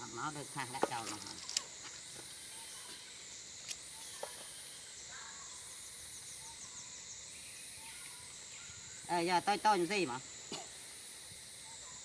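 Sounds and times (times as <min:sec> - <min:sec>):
shrill insect chorus: 0:00.0 - 0:12.0.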